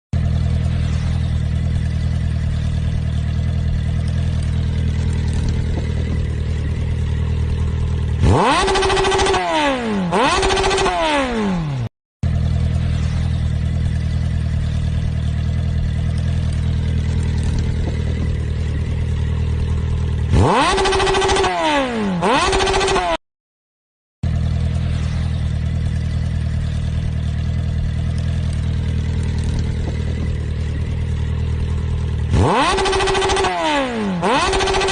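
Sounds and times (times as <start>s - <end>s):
motorcycle engine idling: 0.2s - 23.2s, 24.2s - 34.9s
motorcycle engine revving: 0.2s - 23.2s, 24.2s - 34.9s.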